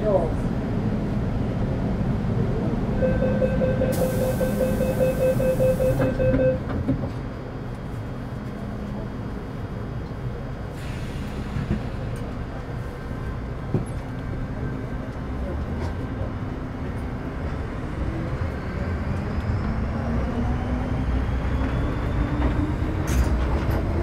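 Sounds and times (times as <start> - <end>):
train interior running noise: 0.0 - 24.0.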